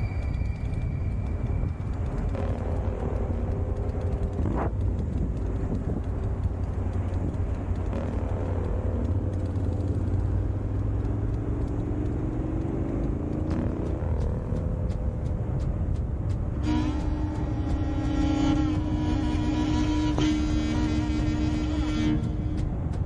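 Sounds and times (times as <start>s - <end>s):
motorcycle engine running: 0.0s - 23.0s
wind rumble: 0.0s - 23.0s.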